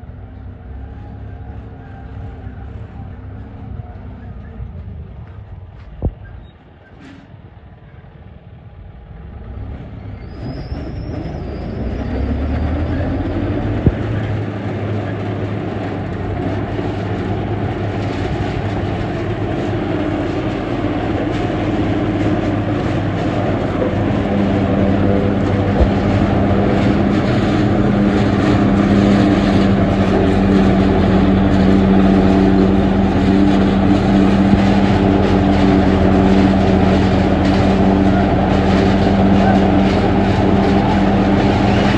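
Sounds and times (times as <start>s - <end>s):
harvester engine running: 0.0s - 41.9s.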